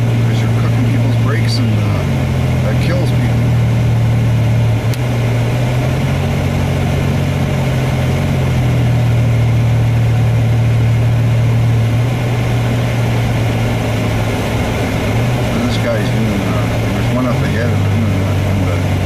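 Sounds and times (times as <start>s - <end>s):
car engine hum: 0.0s - 19.0s
tyres rushing on wet road: 0.0s - 19.0s.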